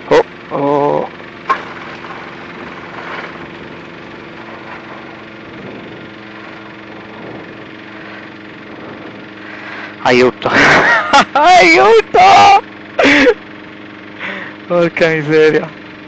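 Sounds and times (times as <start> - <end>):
light aircraft engine idling: 0.0 - 16.0.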